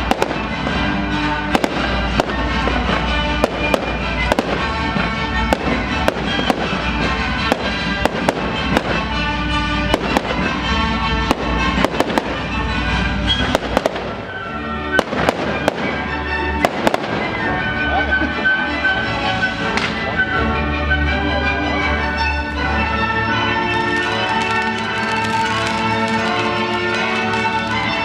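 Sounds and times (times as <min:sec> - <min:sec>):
fireworks banging: 0:00.0 - 0:20.4, 0:22.2 - 0:28.0
music playing: 0:00.0 - 0:28.0.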